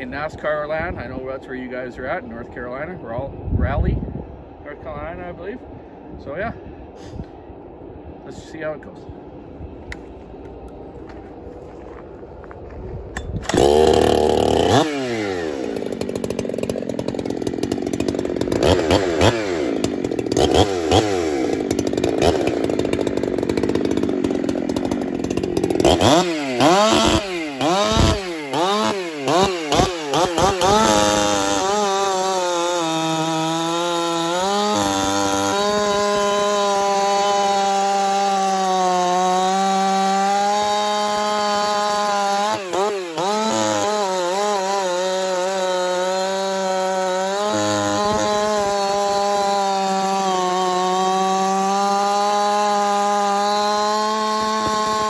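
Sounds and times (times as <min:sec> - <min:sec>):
chainsaw cutting logs: 0:10.0 - 0:55.0.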